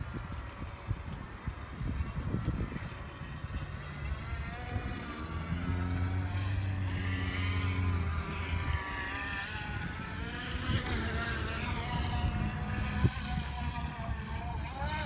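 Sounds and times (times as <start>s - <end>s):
small motor and propeller whining: 0.0s - 15.0s.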